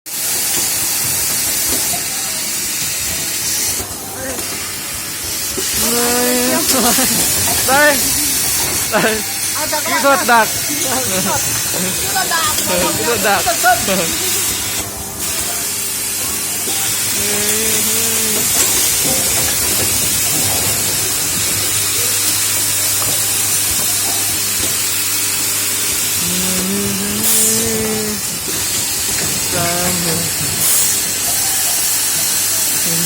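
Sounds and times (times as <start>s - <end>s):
steady loud hiss: 0.1s - 33.0s
faint voices: 1.7s - 24.6s, 26.0s - 33.0s.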